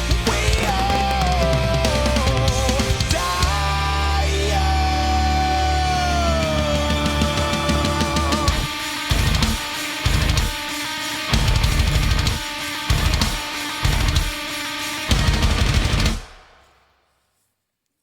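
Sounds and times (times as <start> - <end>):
distorted guitar riff: 0.0 - 16.6
rock drums: 0.0 - 16.9.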